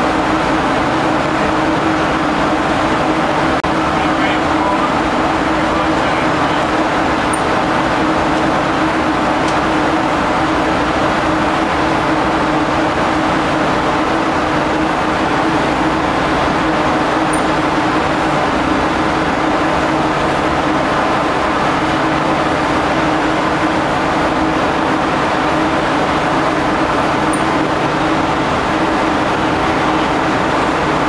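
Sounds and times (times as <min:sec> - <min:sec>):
ship deck machinery droning: 0:00.0 - 0:31.0.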